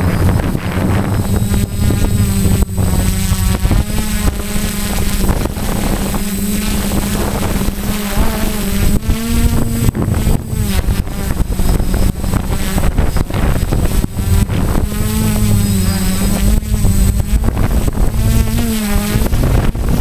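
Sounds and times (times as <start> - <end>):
drone propellers buzzing: 0.0 - 20.0
wind buffeting microphone: 0.0 - 20.0.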